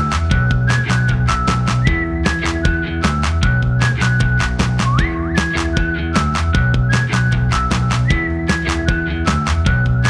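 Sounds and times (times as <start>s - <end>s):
held bass notes: 0.0s - 10.0s
steady drum beat: 0.0s - 10.0s.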